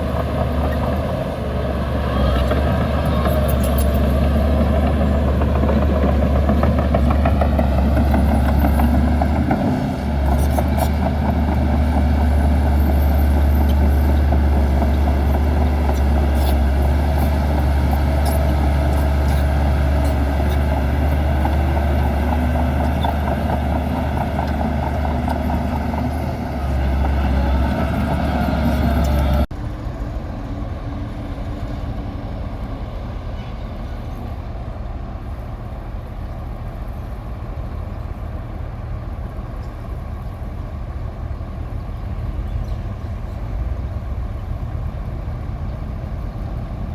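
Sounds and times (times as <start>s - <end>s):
diesel engine droning: 0.0s - 46.9s.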